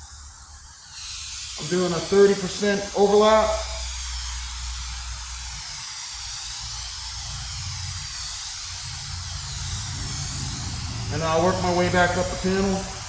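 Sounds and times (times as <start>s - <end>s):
spray paint can hissing: 0.0s - 13.0s.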